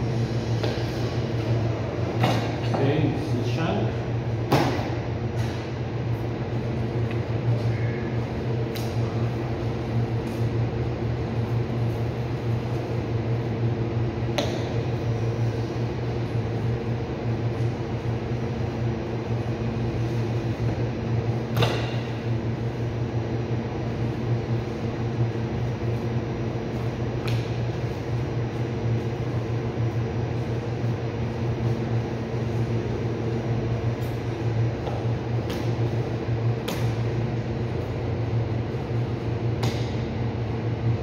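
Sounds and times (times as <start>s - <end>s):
cooling unit fan humming: 0.0s - 41.0s.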